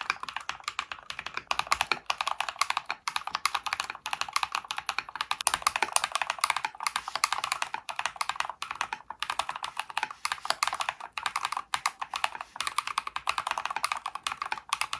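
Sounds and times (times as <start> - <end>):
mechanical keyboard fast typing: 0.0 - 14.9.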